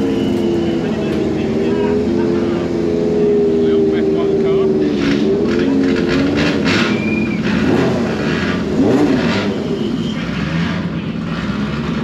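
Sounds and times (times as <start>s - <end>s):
engine throttle blips: 0.0s - 12.0s
racing car engine idling: 0.0s - 12.0s.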